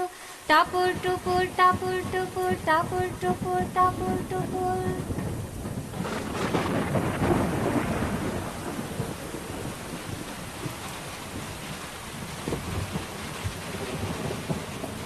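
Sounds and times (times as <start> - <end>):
heavy rain falling: 0.0 - 15.0
rolling thunder: 0.6 - 15.0.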